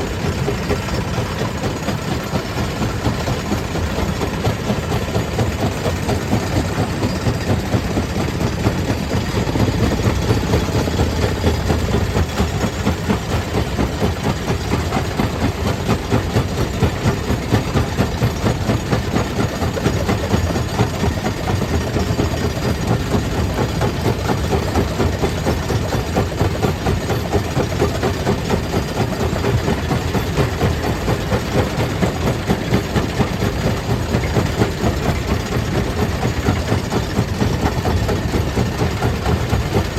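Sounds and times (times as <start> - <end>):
stone crusher machine pulsing: 0.0 - 39.9.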